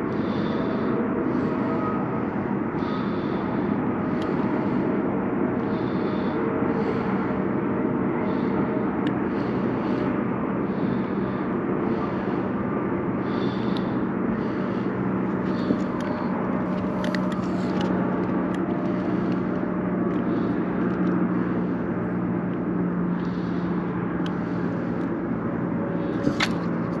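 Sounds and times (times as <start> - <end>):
electric trolling motor humming: 0.0 - 27.0
wind: 0.0 - 27.0.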